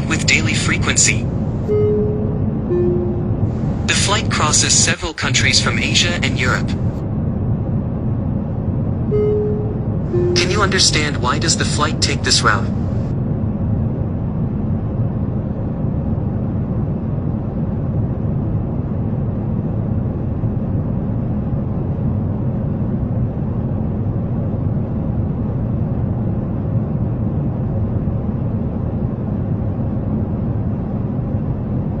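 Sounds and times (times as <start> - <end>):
jet airliner drone: 0.0 - 32.0.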